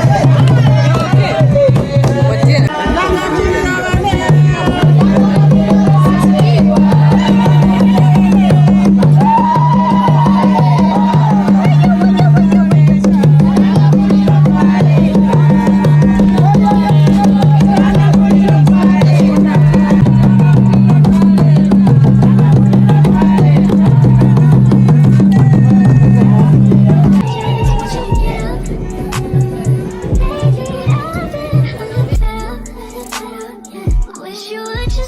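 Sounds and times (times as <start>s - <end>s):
song with drum beat and bass: 0.0s - 35.0s.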